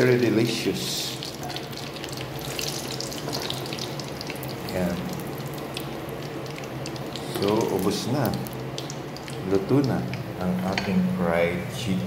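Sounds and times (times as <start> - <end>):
chicken deep-frying in oil: 0.0 - 10.4.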